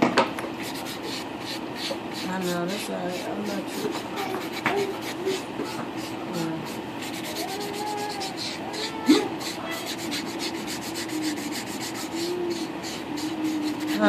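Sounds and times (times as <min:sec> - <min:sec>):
nail file rubbing on nails: 0:00.6 - 0:14.0.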